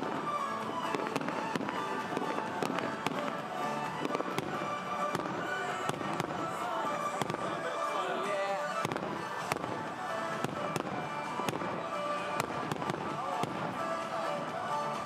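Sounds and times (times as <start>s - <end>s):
fireworks bangs and crackles: 0.0s - 7.9s, 8.6s - 15.0s
music playing: 0.0s - 15.0s.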